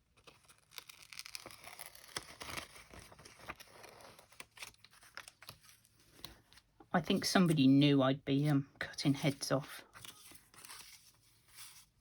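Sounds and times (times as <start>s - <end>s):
paper crinkling: 0.0s - 7.6s, 9.1s - 12.0s.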